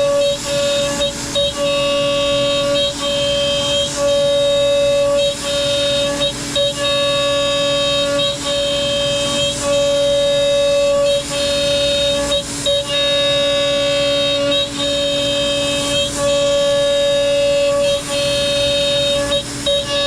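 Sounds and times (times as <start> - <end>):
router spindle high whine: 0.0 - 20.0.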